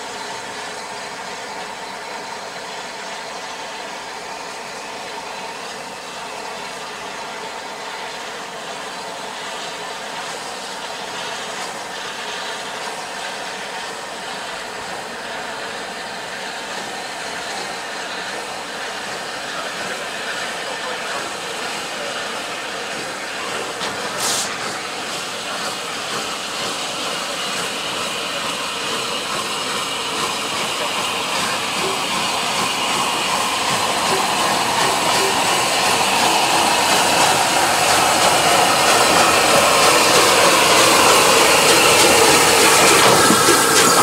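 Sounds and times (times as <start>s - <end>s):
steam hissing: 0.0s - 44.0s.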